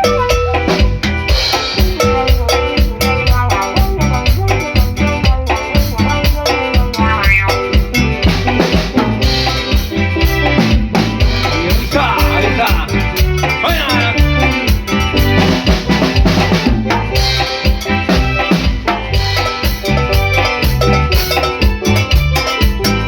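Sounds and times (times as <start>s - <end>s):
band playing a song: 0.0s - 23.0s
drum kit beat: 0.0s - 23.0s.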